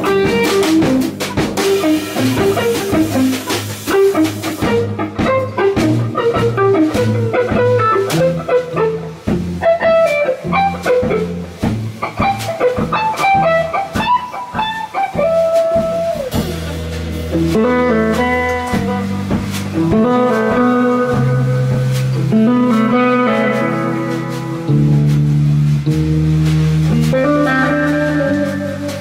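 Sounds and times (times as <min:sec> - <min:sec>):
drum kit playing: 0:00.0 - 0:29.0
electric guitars playing: 0:00.0 - 0:29.0.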